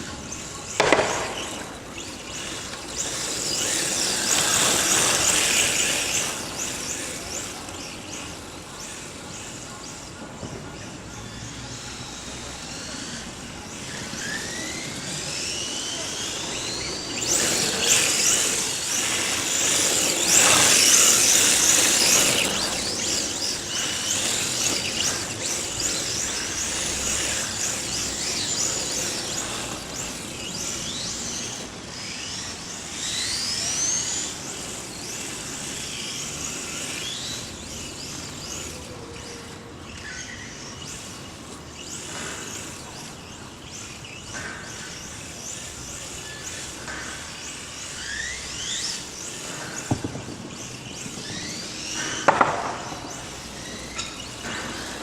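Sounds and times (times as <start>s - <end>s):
rc car motor whine: 0.0s - 55.0s.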